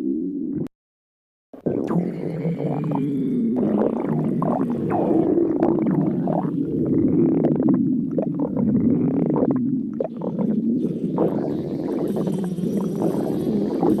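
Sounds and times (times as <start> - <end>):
stomach growling: 1.6 - 14.0.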